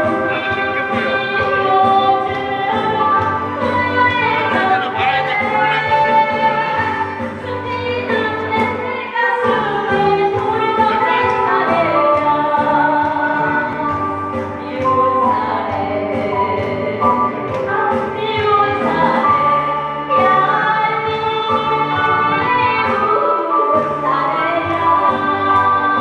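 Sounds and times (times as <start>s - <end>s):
band backing track with beat: 0.0s - 26.0s
person singing: 0.0s - 26.0s.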